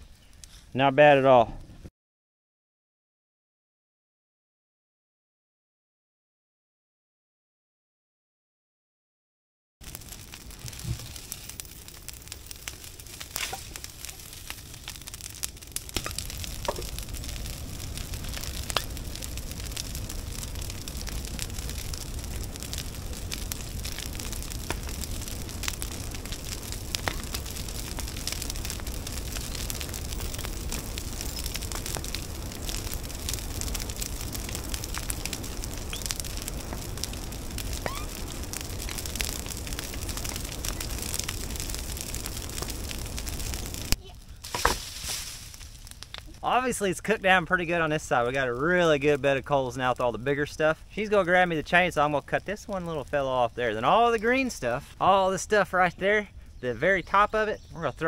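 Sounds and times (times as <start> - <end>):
fire crackling and popping: 0.0 - 0.7, 9.8 - 58.0
low rush of fire: 9.8 - 58.0.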